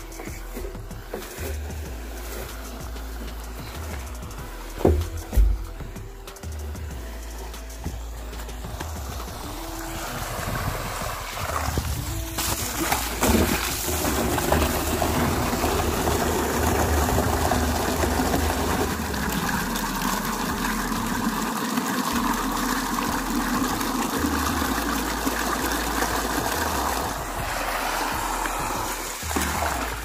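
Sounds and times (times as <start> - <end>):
water gushing into plastic drum: 0.0 - 6.0, 8.0 - 30.0.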